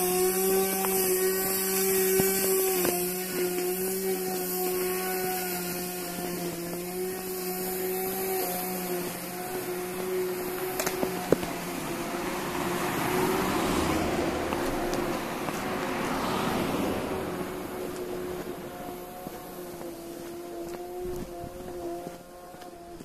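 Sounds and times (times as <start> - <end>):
car passing on street: 0.0 - 23.0
small motor humming: 0.0 - 23.0.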